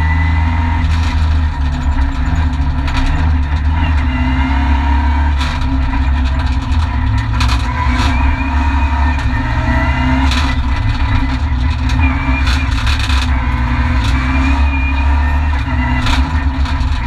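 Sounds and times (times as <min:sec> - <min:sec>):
rally car engine running hard: 0:00.0 - 0:17.0
road and tyre noise: 0:00.0 - 0:17.0.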